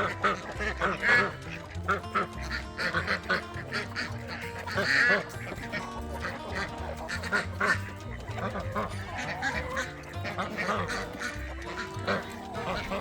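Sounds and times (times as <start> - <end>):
background music: 0.0 - 13.0
farm birds calling: 0.0 - 13.0.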